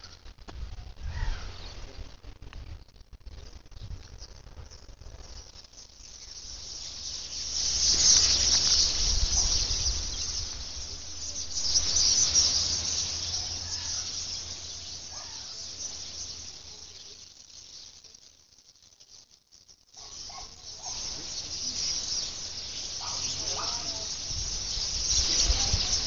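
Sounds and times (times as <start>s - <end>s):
flock of birds chattering: 0.0s - 26.0s.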